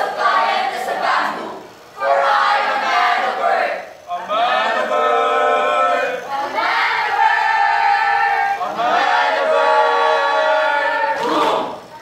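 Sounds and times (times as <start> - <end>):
students singing in unison: 0.0 - 11.9.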